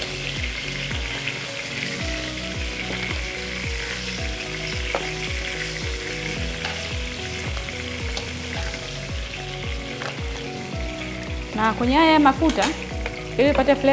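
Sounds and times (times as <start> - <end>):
background music with steady beat: 0.0 - 13.9
oil sizzling in a frying pan: 0.0 - 13.9.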